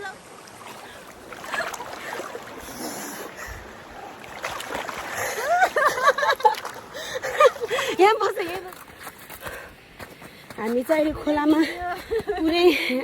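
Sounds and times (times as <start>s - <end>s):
river water splashing: 0.0s - 12.9s.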